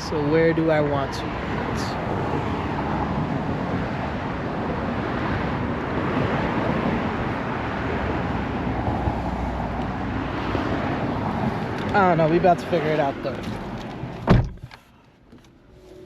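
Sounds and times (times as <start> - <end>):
road and tyre noise inside car: 0.0 - 16.0.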